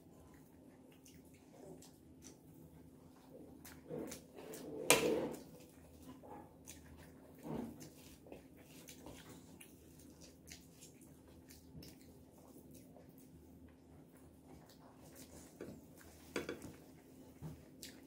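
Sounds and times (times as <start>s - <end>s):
chewing and mouth sounds: 0.0s - 18.0s.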